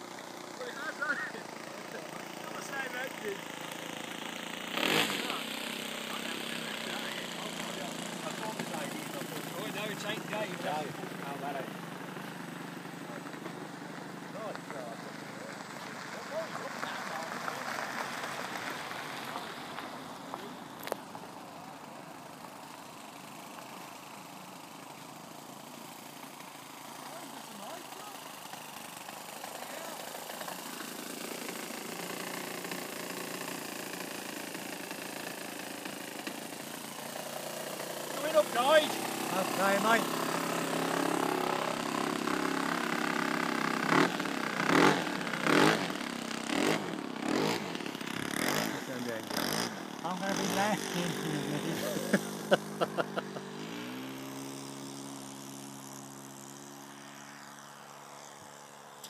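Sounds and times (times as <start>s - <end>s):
distant model aeroplane motor: 0.0s - 59.0s
small aircraft engine running: 0.0s - 59.0s.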